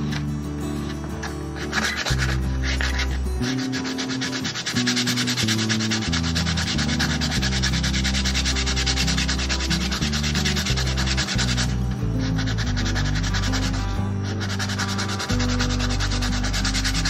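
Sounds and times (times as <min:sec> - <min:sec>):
sandpaper rubbing on wood: 0:00.0 - 0:17.0.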